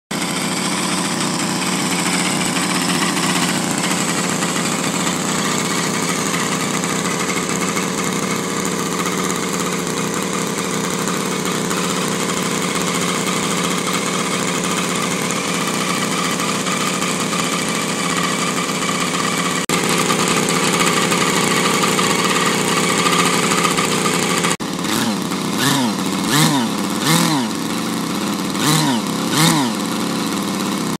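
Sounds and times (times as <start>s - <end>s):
model helicopter engine running: 0.1s - 30.9s.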